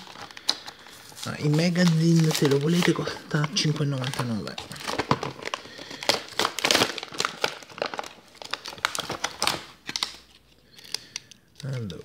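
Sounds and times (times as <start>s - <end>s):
paper and plastic packaging crinkling: 0.0s - 12.0s.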